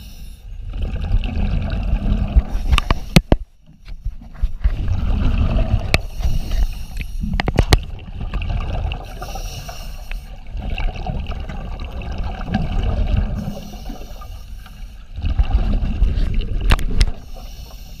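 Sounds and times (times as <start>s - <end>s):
muffled underwater water and bubbles: 0.0s - 18.0s.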